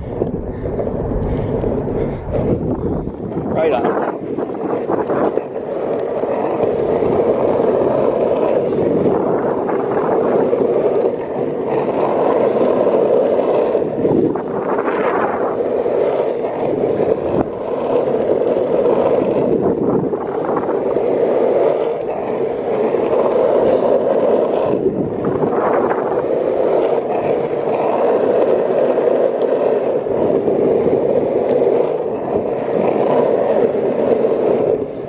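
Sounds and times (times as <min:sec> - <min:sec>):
longboard wheels rolling on asphalt: 0:00.0 - 0:35.0.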